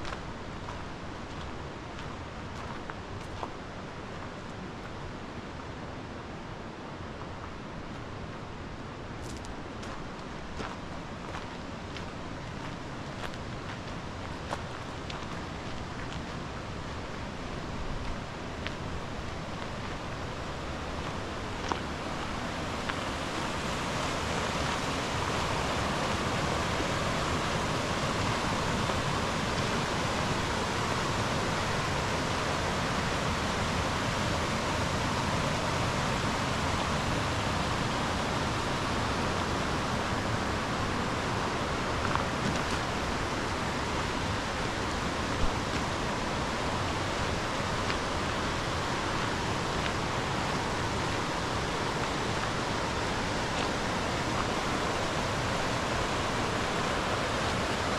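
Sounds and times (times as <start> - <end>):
mountain stream rushing: 0.0 - 57.9.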